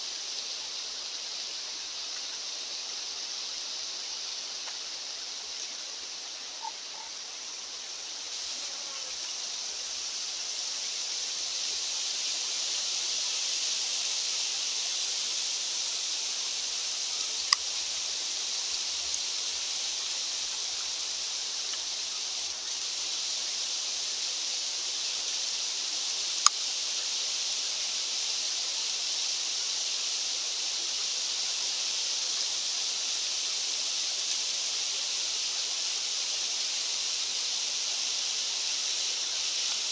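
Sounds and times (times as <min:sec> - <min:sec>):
mountain wind hiss: 0:00.0 - 0:39.9.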